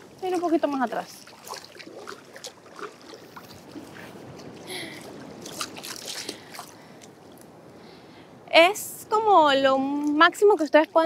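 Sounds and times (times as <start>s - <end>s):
gentle sea waves sloshing: 0.0s - 11.0s.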